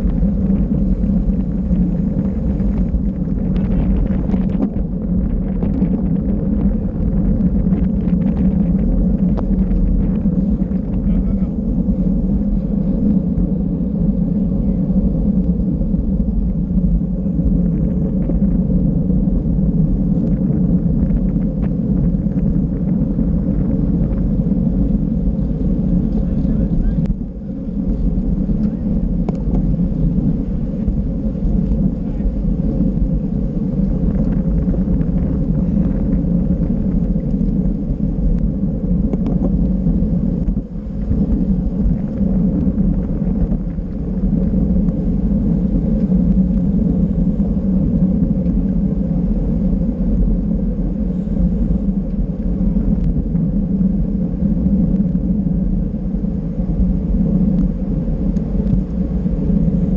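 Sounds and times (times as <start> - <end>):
road rumble: 0.0 - 59.9
wind rush on microphone: 0.0 - 59.9.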